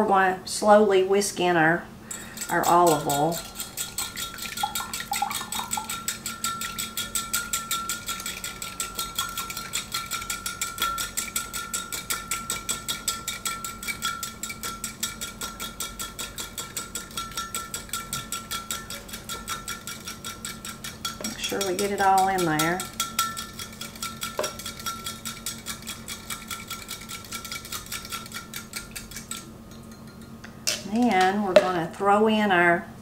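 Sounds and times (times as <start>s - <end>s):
whisk clinking against glass: 2.1s - 30.8s.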